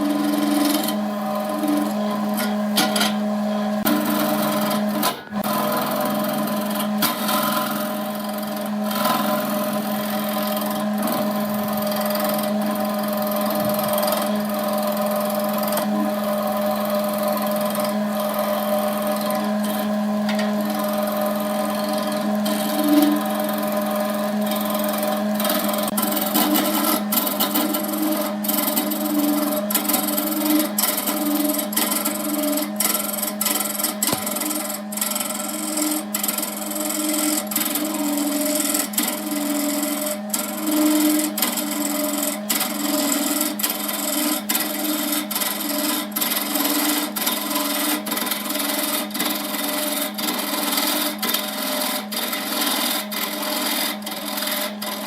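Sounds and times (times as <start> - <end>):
tool scraping spinning wood: 0.0 - 55.0
wood lathe motor hum: 0.0 - 55.0.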